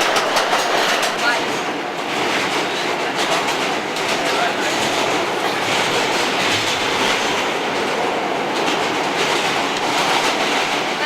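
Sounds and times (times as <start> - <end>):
subway train wheels on track: 0.0 - 11.0.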